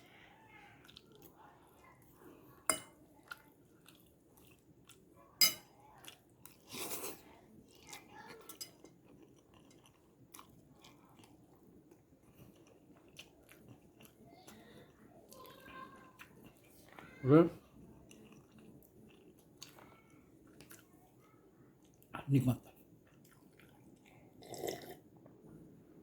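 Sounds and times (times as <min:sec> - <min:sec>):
chewing fried noodles: 0:00.1 - 0:22.1, 0:22.8 - 0:25.5.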